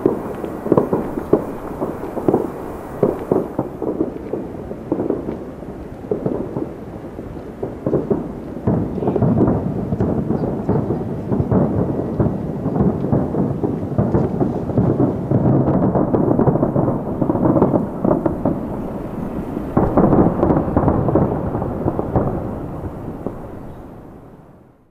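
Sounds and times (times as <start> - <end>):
distant fireworks booming: 0.0 - 24.9.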